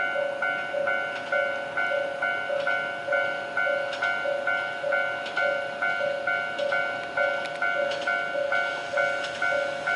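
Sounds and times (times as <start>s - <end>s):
level-crossing warning bell ringing: 0.0s - 9.9s.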